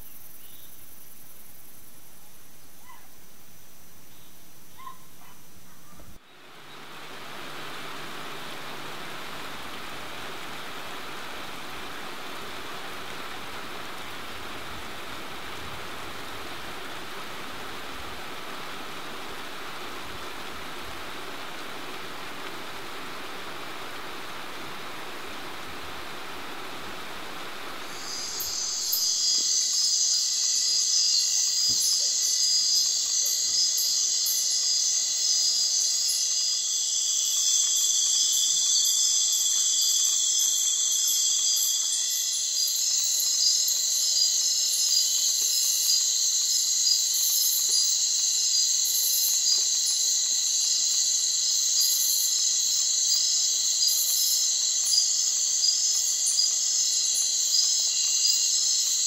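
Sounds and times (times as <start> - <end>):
insects trilling at night: 0.0 - 59.0
steady hiss: 0.0 - 59.0.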